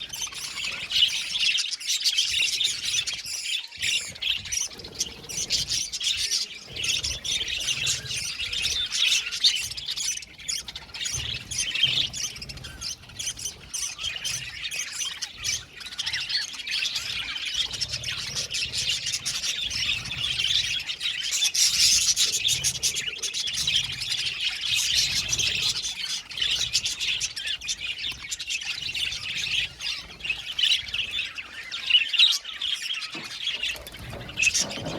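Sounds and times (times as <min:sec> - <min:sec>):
budgerigars chattering and squawking: 0:00.0 - 0:34.9.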